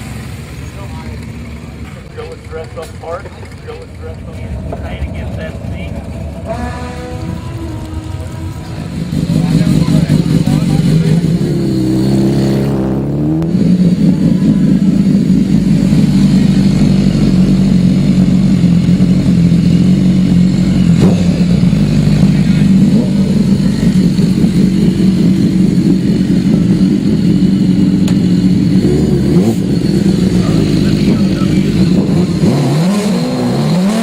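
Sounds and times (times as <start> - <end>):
motorcycle engine running loud: 0.0 - 34.0.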